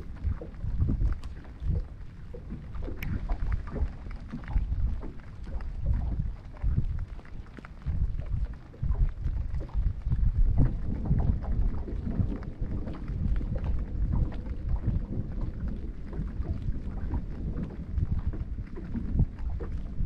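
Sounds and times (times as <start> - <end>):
raindrops tapping on camera housing: 0.0 - 20.0
wind rumble on microphone: 0.0 - 20.0.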